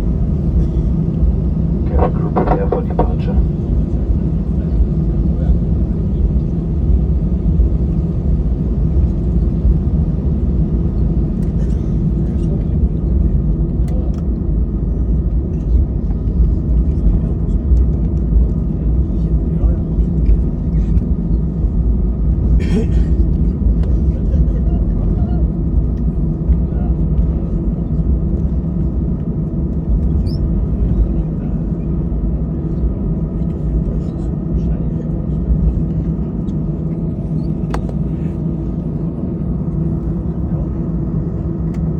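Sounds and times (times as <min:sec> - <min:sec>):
jet engine rumble in cabin: 0:00.0 - 0:41.9.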